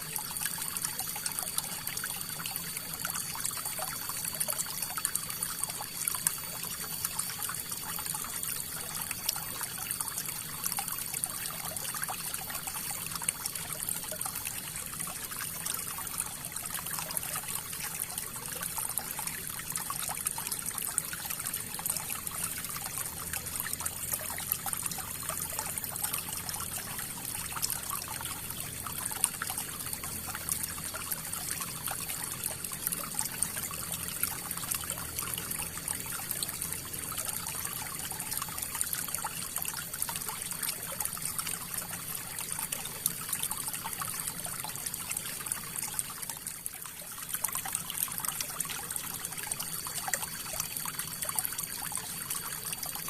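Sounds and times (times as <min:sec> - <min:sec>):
river water trickling: 0:00.0 - 0:53.0.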